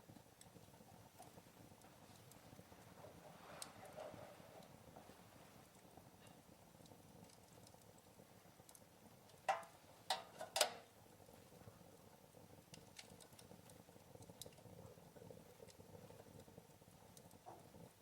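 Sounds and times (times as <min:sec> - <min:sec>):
loud fire pops: 0:00.0 - 0:16.5
wood fire crackling: 0:00.0 - 0:18.0.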